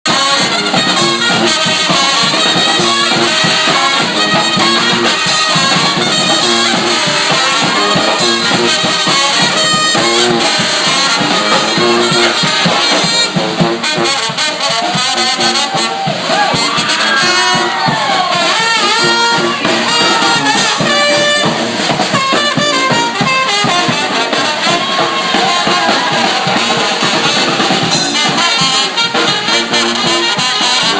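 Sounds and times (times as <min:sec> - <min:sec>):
steady drum beat: 0:00.0 - 0:30.9
trumpets and trombones: 0:00.0 - 0:30.9.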